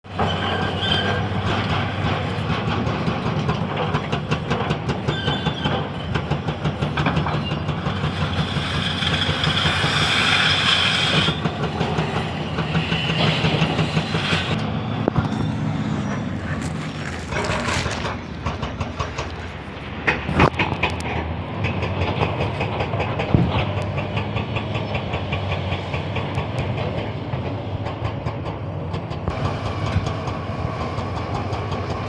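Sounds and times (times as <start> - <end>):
excavator diesel engine drone: 0.1 - 32.0.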